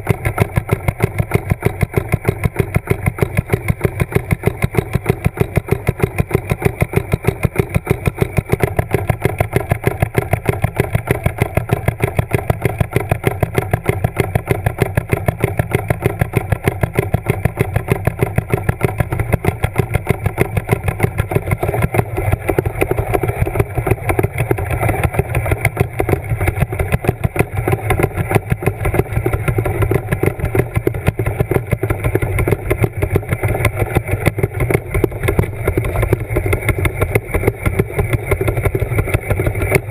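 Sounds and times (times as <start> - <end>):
motor running underwater: 0.0 - 39.9.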